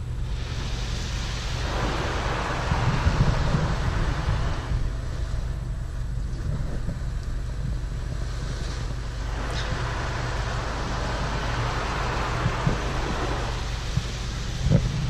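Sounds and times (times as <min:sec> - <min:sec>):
automatic car wash rumble and hiss: 0:00.0 - 0:15.0.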